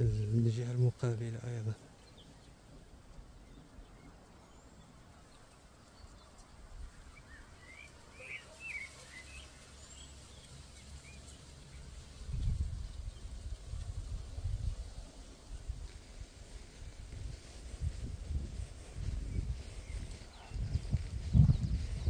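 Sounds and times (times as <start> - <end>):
small songbirds chirping: 0.0 - 16.1, 17.9 - 22.0
low steady outdoor rumble: 0.0 - 22.0.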